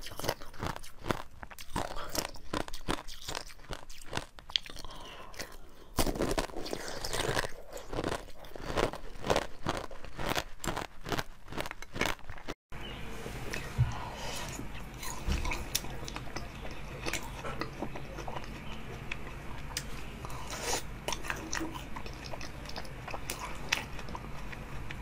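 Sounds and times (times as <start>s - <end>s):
person chewing crunchy jelly: 0.0s - 12.6s, 13.5s - 25.0s.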